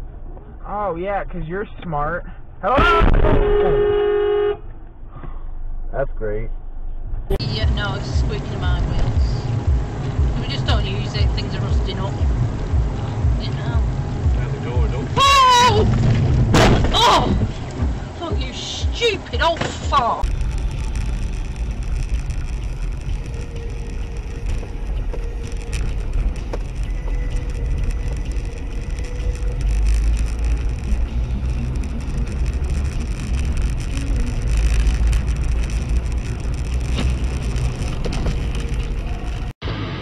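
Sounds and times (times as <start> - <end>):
car engine and tyre rumble: 0.0 - 40.0.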